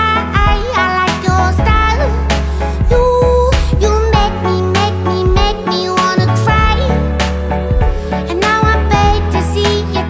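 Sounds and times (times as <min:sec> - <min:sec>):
pop song: 0:00.0 - 0:10.0.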